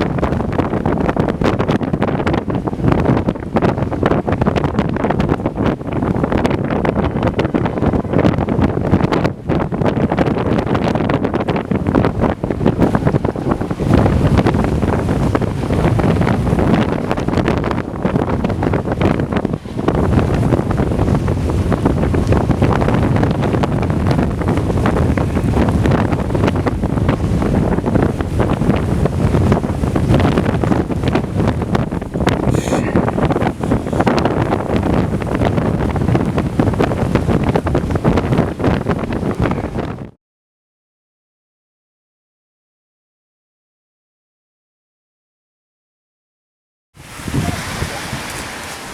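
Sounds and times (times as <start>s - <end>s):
strong wind on microphone: 0.0s - 40.2s, 47.0s - 48.9s.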